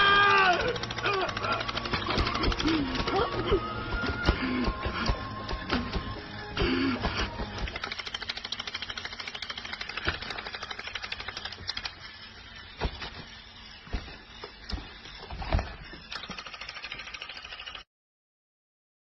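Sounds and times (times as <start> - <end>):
toy motor and gears clicking: 0.0 - 17.9.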